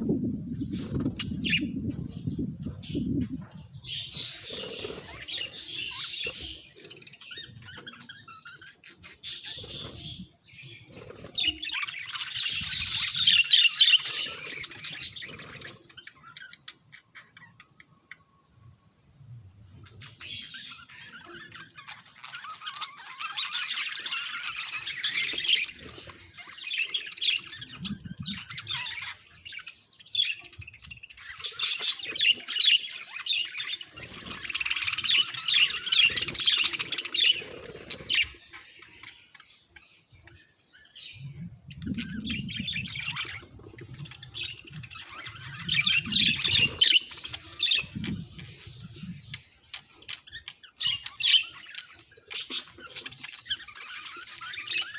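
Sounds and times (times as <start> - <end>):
budgerigars chattering: 3.8 - 18.2, 20.0 - 40.1, 41.8 - 54.9.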